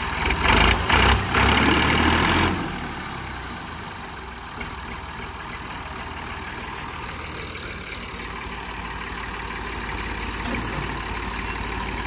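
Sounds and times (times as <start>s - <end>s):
tractor engines idling: 0.0s - 12.0s.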